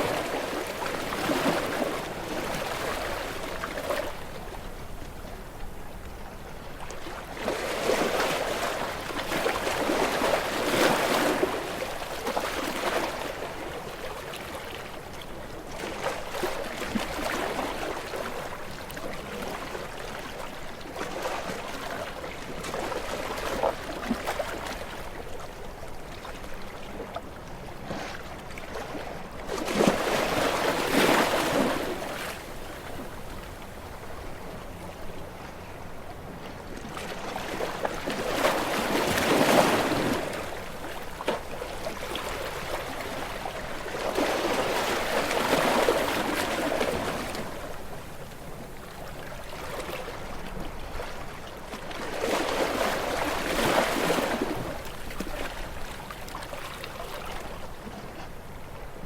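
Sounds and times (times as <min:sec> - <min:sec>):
small waves washing onto beach: 0:00.0 - 0:59.0.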